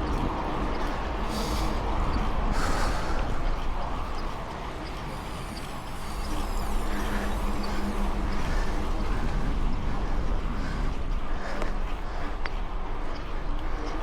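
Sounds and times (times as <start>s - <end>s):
bike tyre and frame rumble: 0.0s - 14.0s
steady low hum: 0.0s - 14.0s.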